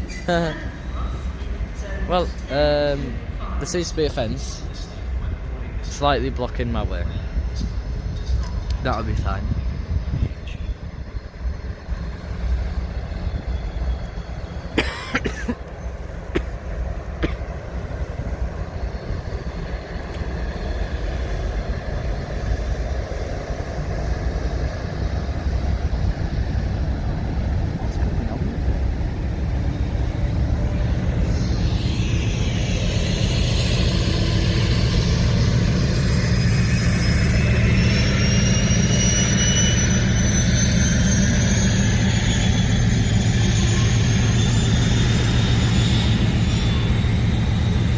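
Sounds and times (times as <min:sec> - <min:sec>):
rail hiss: 0:00.0 - 0:47.9
train locomotive rumble: 0:00.0 - 0:47.9
high whine rising in pitch: 0:06.0 - 0:14.8, 0:15.6 - 0:47.9.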